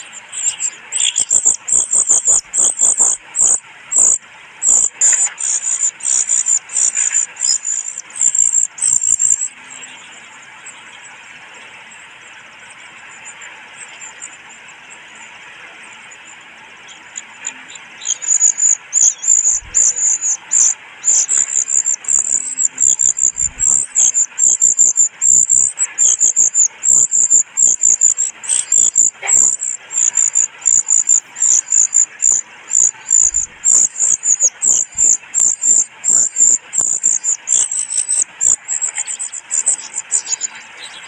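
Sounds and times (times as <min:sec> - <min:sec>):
chick begging calls: 0:00.0 - 0:10.2, 0:12.4 - 0:41.0
steady quiet hiss: 0:00.0 - 0:41.0.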